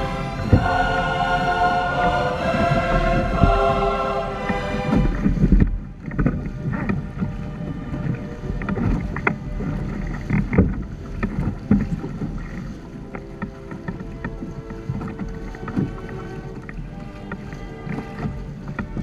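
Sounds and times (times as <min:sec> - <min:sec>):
wind rumble on microphone: 0:02.4 - 0:19.0.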